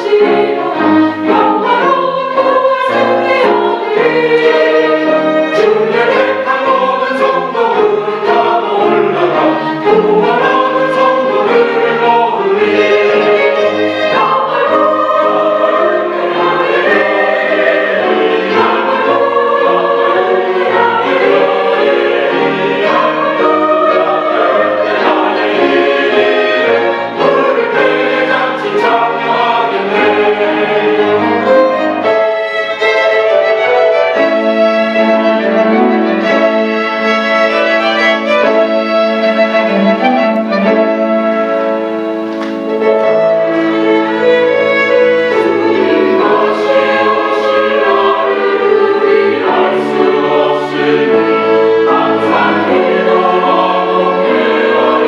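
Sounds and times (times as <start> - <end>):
choir singing a hymn: 0.0 - 55.0
violins playing: 0.0 - 55.0.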